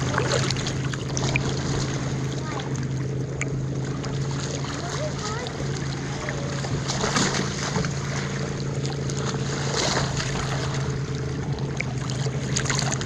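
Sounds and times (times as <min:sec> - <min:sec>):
steady low hum: 0:00.0 - 0:13.0
water lapping and splashing: 0:00.0 - 0:13.0.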